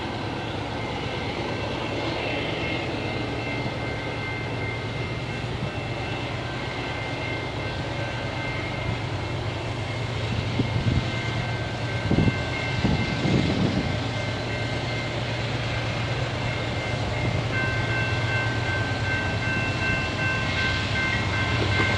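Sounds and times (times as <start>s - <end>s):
distant diesel locomotives rumbling: 0.0s - 21.9s.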